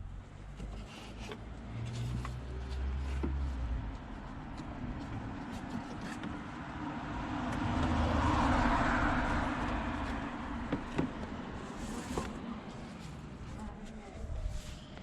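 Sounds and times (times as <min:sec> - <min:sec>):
road vehicle passing by: 0:01.6 - 0:15.0.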